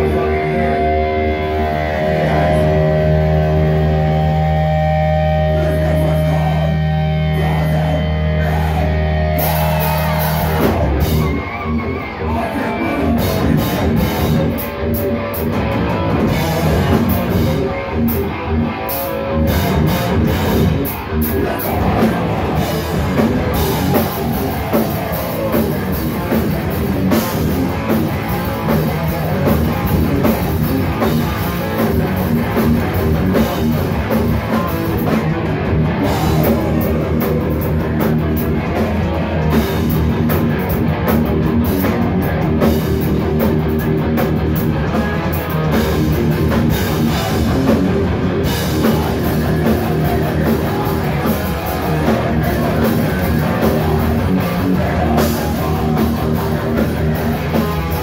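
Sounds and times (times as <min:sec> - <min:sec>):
distorted electric guitars: 0:00.0 - 0:58.0
pounding drum kit: 0:00.0 - 0:58.0.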